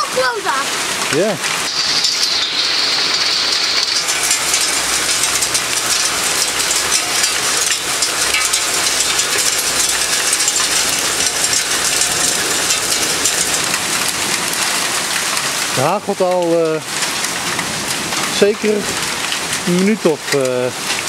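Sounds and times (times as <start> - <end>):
hail clattering on metal stairs: 0.0 - 21.0
pouring rain: 0.0 - 21.0.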